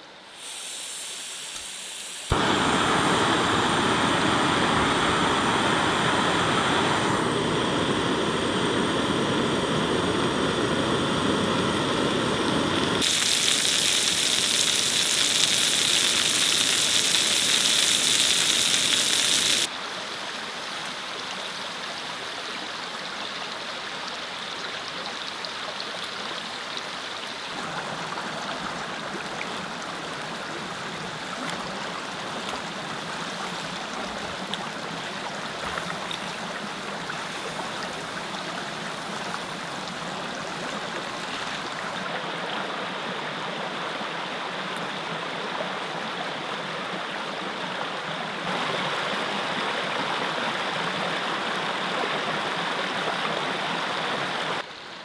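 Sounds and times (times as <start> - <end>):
mountain creek running: 2.3 - 54.7.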